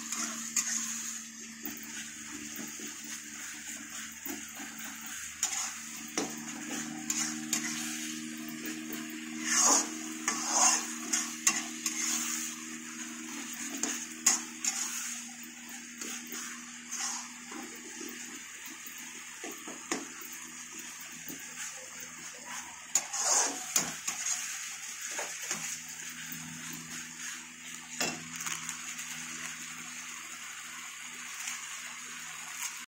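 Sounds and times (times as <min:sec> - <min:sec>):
metal spatula scraping a pan: 0:00.0 - 0:28.3
curry sizzling in a pan: 0:00.0 - 0:32.9.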